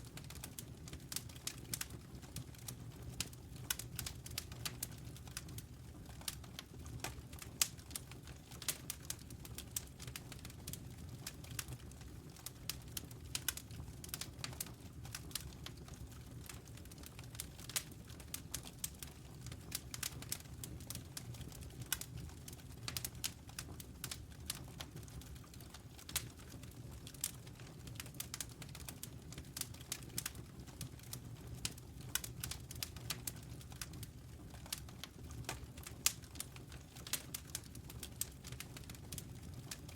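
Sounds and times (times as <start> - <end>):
campfire crackling and popping: 0.1 - 39.9
low rumble of flames: 0.1 - 39.9.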